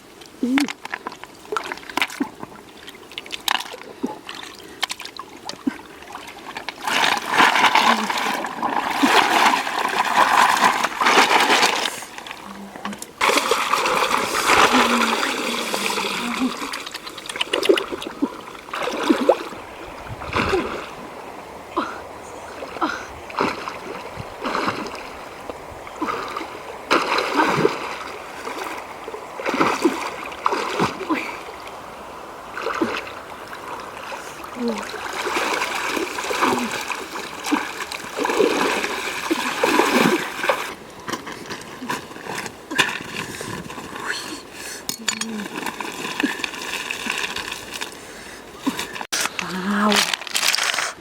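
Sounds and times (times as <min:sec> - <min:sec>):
water splashing and trickling: 0:00.0 - 0:51.0.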